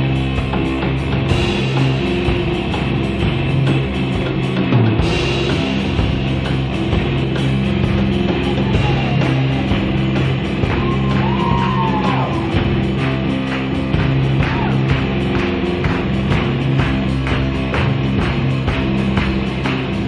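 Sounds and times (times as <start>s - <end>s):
distorted electric guitars: 0.0s - 20.0s
drums and cymbals: 0.0s - 20.0s.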